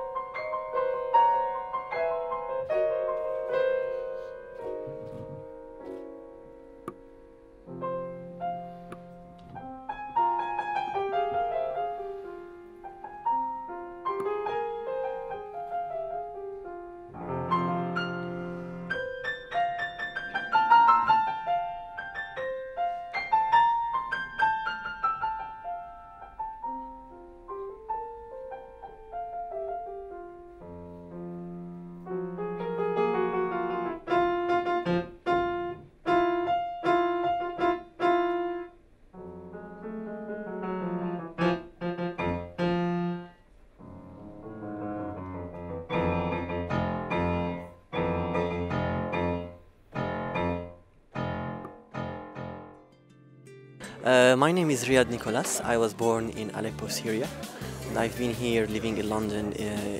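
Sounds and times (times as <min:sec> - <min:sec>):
solo piano: 0:00.0 - 0:59.9.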